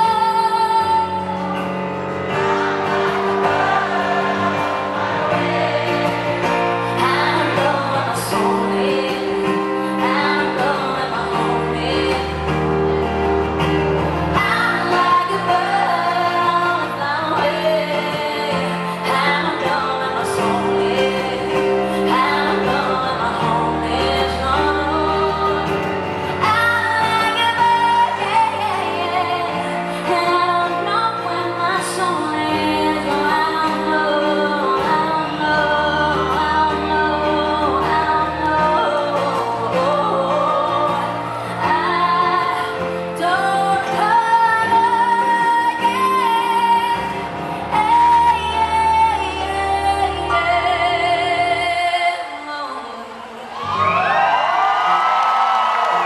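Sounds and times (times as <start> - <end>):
woman singing: 0.0 - 54.1
live pop band playing: 0.0 - 56.0.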